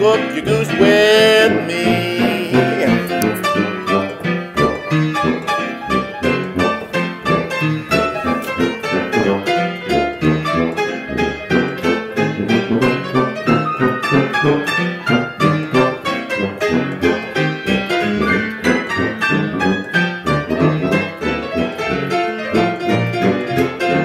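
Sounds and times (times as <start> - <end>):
jazz piano: 0.0 - 24.0
tuba bass line: 0.0 - 24.0.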